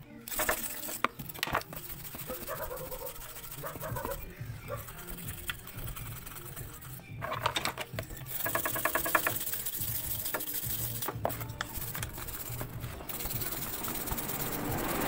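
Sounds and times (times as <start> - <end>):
brush scrubbing metal: 0.0 - 15.0.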